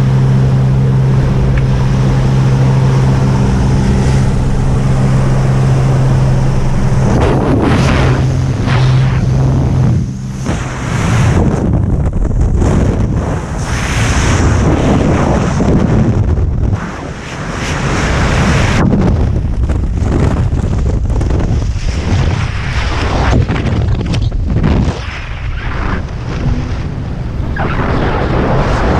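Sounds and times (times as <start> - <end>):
buffeting wind on microphone: 0.0 - 28.9
light aircraft engine droning: 0.0 - 28.9.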